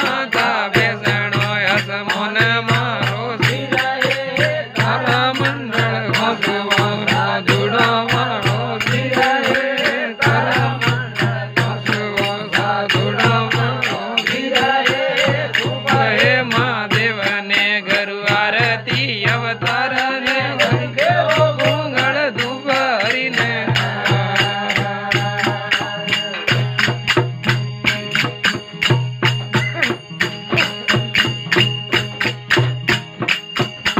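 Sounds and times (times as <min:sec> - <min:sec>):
jingling percussion: 0:00.0 - 0:33.9.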